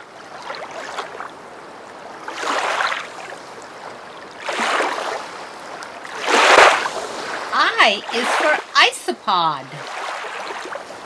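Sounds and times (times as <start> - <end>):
rushing splashing water: 0.0 - 1.4, 2.1 - 11.0.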